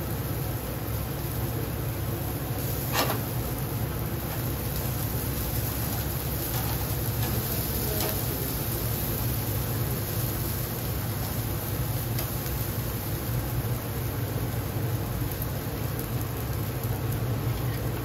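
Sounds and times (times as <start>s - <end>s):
grill burners rushing: 0.1s - 18.0s.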